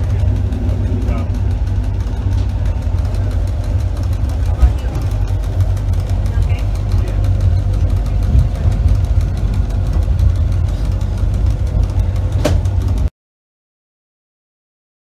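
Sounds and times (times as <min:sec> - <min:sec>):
train clicks and squeak: 0:00.0 - 0:13.1
train rumbling inside carriage: 0:00.0 - 0:13.1.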